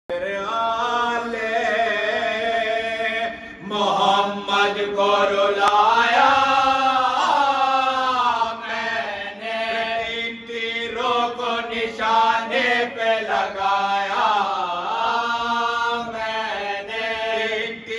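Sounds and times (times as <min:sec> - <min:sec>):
men chanting together: 0:00.3 - 0:17.9.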